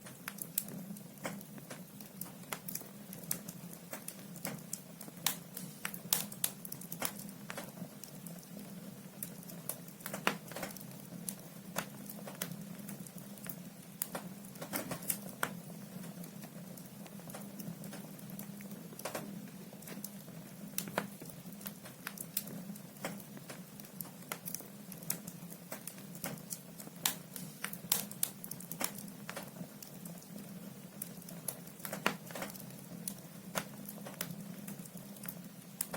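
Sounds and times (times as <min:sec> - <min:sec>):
fire crackling and popping: 0:00.0 - 0:35.9.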